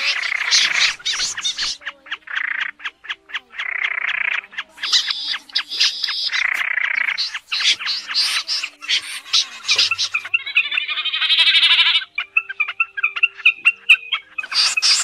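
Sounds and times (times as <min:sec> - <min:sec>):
harsh rasping bird calls: 0:00.0 - 0:15.0.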